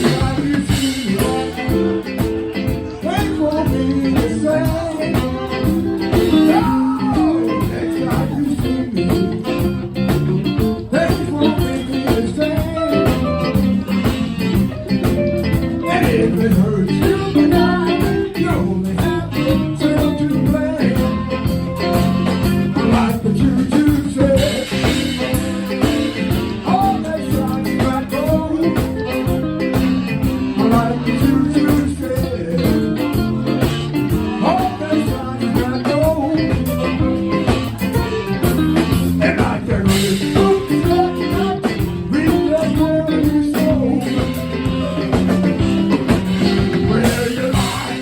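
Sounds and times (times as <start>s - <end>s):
live blues-rock band: 0.0s - 48.0s.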